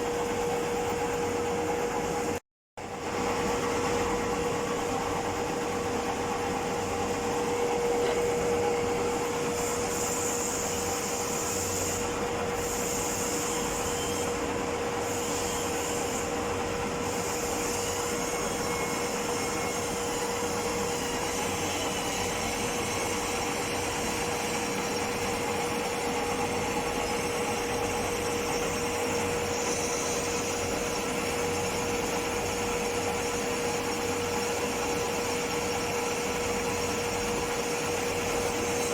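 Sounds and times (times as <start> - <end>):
metal lathe humming and whining: 3.0 - 38.9.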